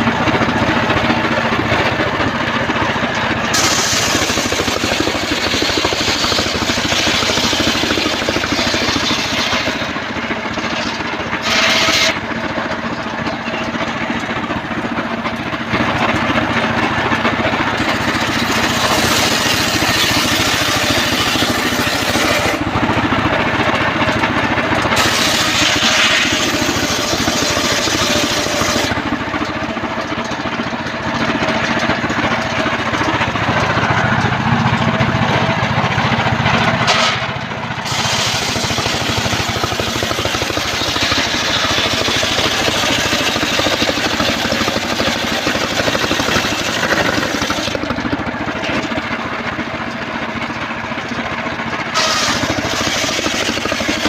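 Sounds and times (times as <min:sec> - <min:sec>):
sawmill cutting timber: 0:00.0 - 0:54.0.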